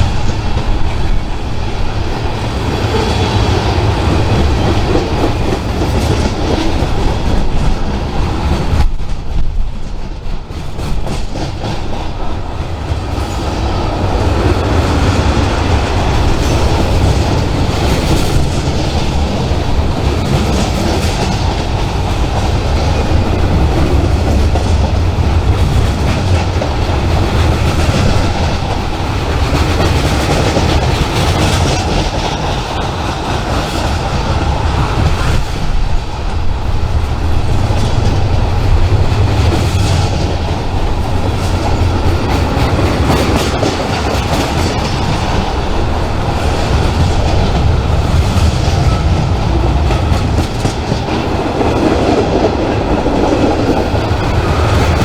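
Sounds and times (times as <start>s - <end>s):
low rumble of train: 0.0s - 55.0s
train wheels clattering over rail joints: 0.0s - 55.0s.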